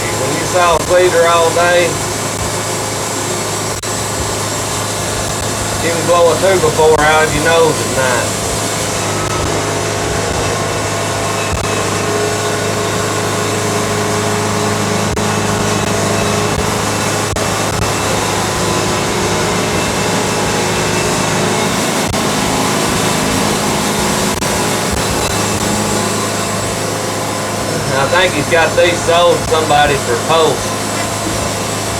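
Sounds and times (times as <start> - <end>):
band sawmill engine hum: 0.0 - 31.9.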